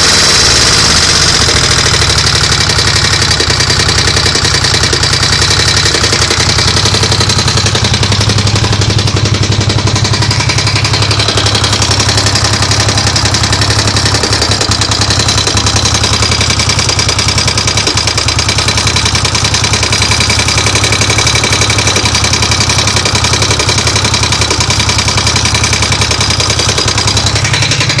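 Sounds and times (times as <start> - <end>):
engine ticking noise: 0.0 - 28.0
motorcycle engine idling: 0.0 - 28.0.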